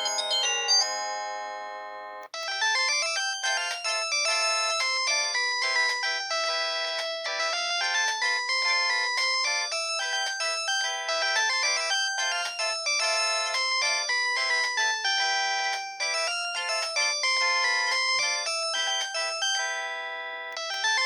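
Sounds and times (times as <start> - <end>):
polyphonic phone ringtone: 0.0 - 21.0.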